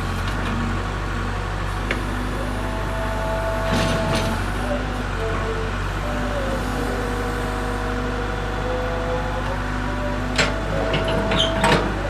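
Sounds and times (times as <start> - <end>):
diesel engine running: 0.0 - 12.0
engine whine: 0.0 - 12.0.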